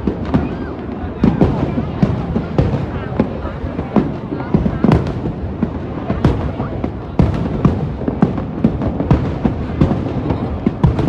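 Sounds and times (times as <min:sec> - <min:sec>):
continuous rumble: 0:00.0 - 0:11.0.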